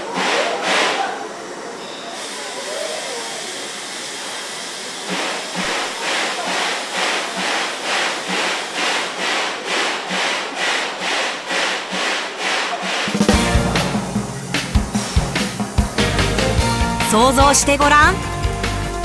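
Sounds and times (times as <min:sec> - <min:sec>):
rhythmic steam chuffing: 0:00.0 - 0:19.0
steam locomotive hissing steam: 0:00.0 - 0:19.0.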